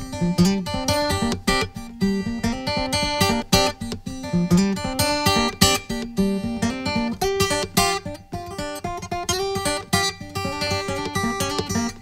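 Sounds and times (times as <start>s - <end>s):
acoustic guitar strumming and picking: 0.0s - 12.0s.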